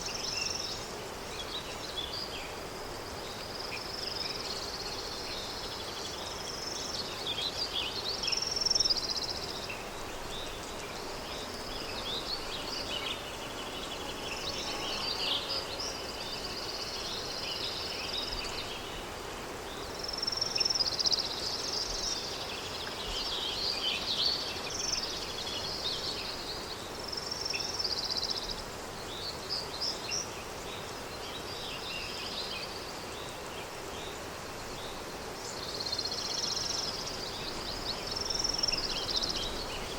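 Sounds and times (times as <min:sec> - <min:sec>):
songbirds chirping: 0:00.0 - 0:39.9
wind hiss: 0:00.0 - 0:39.9.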